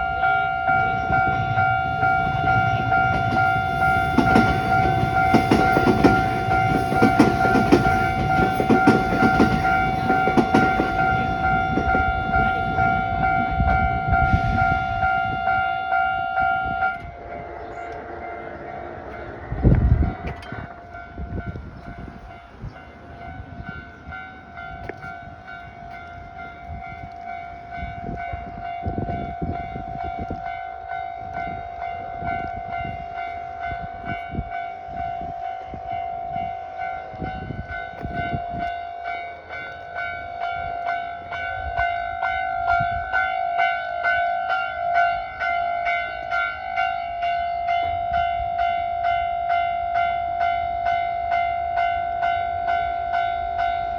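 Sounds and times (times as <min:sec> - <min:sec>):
level-crossing warning bell ringing: 0:00.0 - 0:53.9
passing train clattering thuds: 0:00.0 - 0:53.9.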